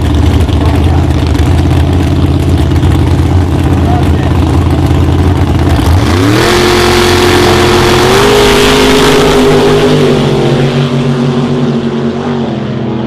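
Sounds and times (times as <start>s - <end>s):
drag racing car engine revving: 0.0s - 13.0s.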